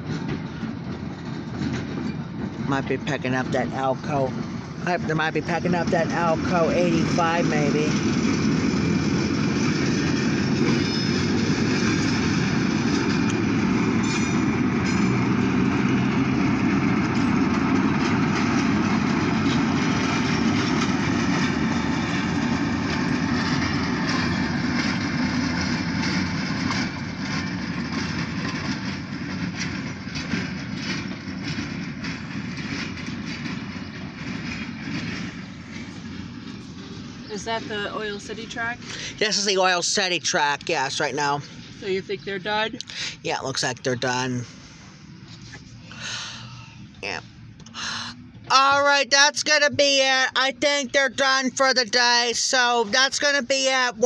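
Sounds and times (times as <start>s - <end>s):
diesel locomotive engine running: 0.0s - 54.0s
wheels clicking on rails: 0.0s - 54.0s.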